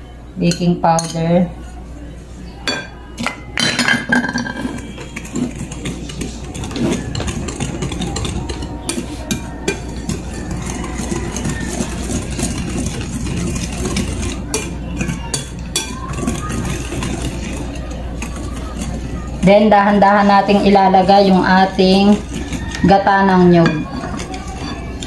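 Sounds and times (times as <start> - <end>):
whisk scraping in glass bowl: 4.4 - 25.0.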